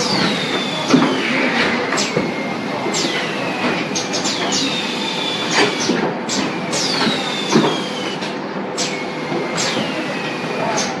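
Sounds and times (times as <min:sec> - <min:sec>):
packing machine noise: 0:00.0 - 0:11.0.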